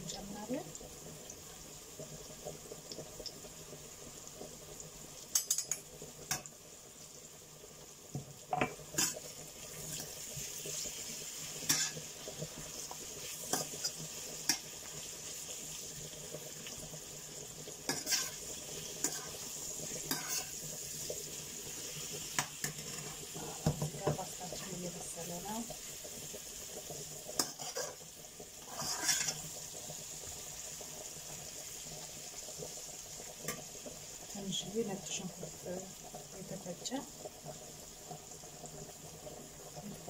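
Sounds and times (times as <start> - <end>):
vegetables sizzling in oil: 0.0 - 40.0.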